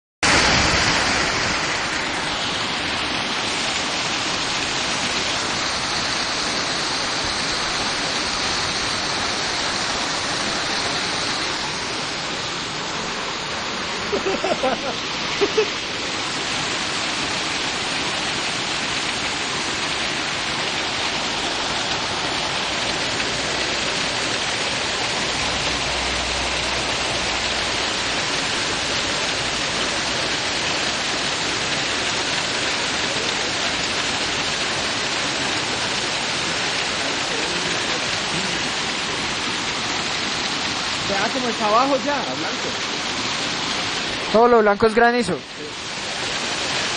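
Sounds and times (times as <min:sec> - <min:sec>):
heavy rain and hail: 0:00.2 - 0:46.9.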